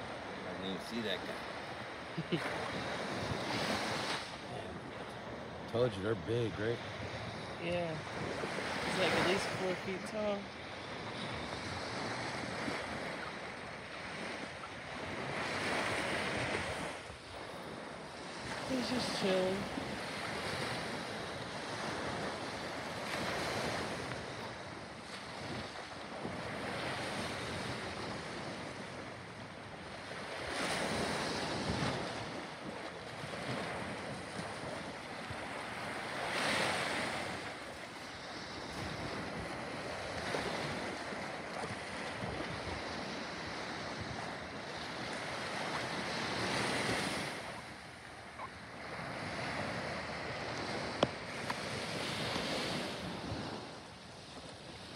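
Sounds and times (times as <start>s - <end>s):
small waves breaking on beach: 0.0s - 54.9s.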